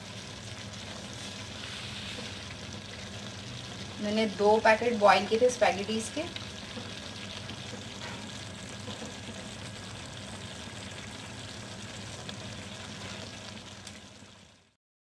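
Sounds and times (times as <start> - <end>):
vegetables sizzling in a wok: 0.0 - 14.8.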